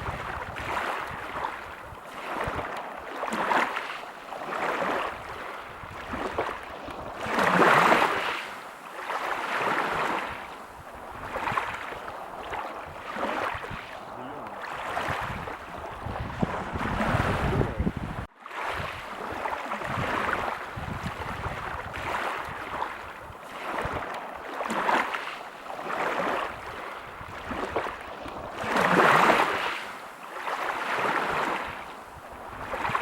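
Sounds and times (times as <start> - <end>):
ocean surf breaking on beach: 0.0 - 33.0.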